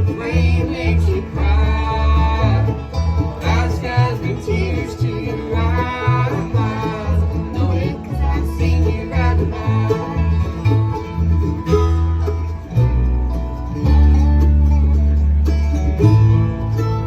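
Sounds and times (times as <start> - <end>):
banjo picking: 0.0 - 17.0
bass line: 0.0 - 17.0
bluegrass band playing: 0.0 - 17.0.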